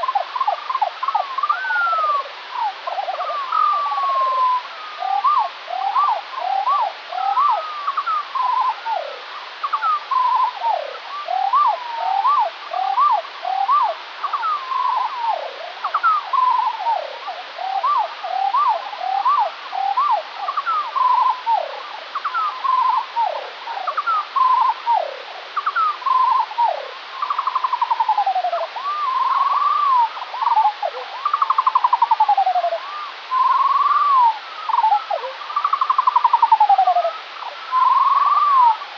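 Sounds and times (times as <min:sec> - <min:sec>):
slowed skylark song: 0:00.0 - 0:38.9.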